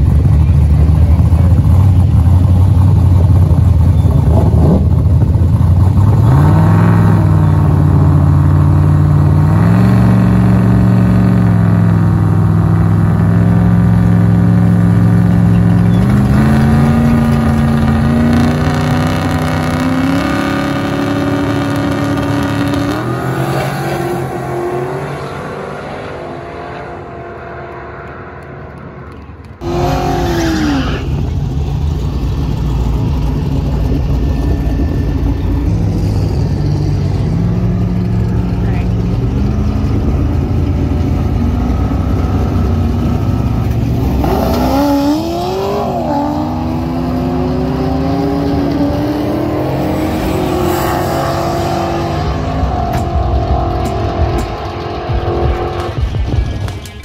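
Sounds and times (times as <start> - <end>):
drag car engine revving: 0.0 - 57.0
loud engine: 0.0 - 57.0.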